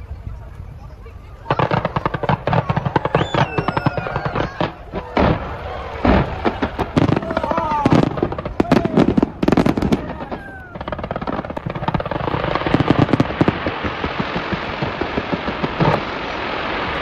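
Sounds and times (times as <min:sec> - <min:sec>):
rapid firework crackling: 0:01.1 - 0:17.0
loud firework bangs: 0:01.4 - 0:17.0.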